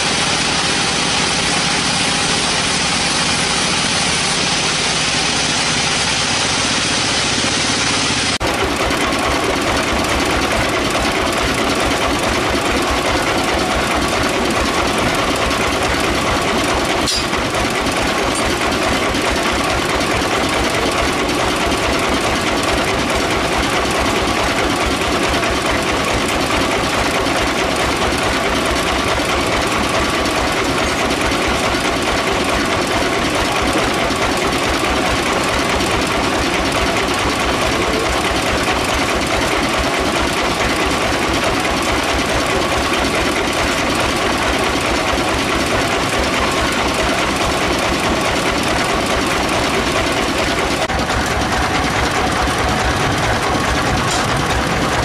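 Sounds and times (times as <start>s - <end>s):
sawmill machinery clattering: 0.0s - 55.0s.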